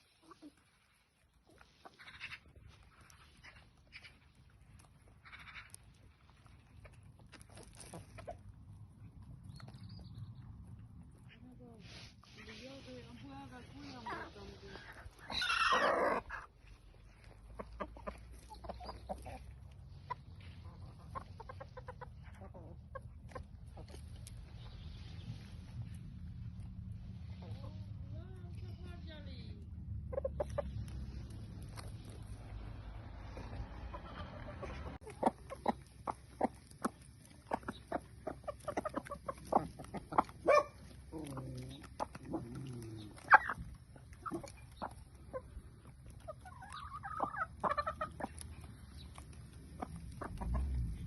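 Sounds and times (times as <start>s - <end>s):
chickens clucking: 0.0s - 29.0s, 30.0s - 51.0s
low steady rumble: 0.0s - 51.0s.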